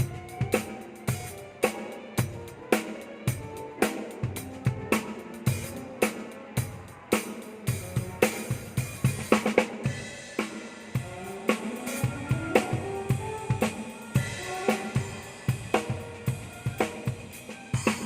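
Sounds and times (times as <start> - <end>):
drum kit groove: 0.0 - 18.0.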